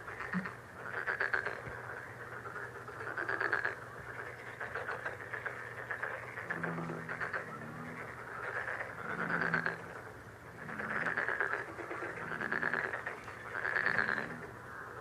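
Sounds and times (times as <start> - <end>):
frog chorus: 0.0 - 15.0
frog rasping pulsed calls: 0.0 - 15.0.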